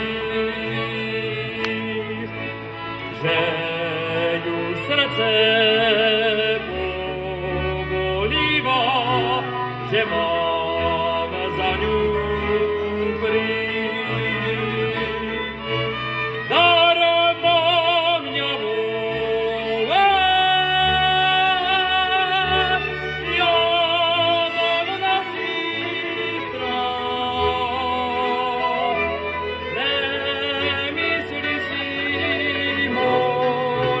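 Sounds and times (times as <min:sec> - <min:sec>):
instrumental accompaniment: 0:00.0 - 0:34.0
man singing folk song: 0:03.2 - 0:15.5, 0:16.5 - 0:34.0.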